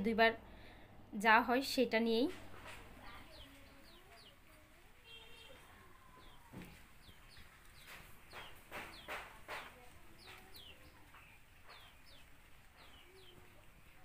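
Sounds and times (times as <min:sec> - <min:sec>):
birds chirping: 0:01.6 - 0:14.0
sharp bird calls: 0:02.6 - 0:14.0.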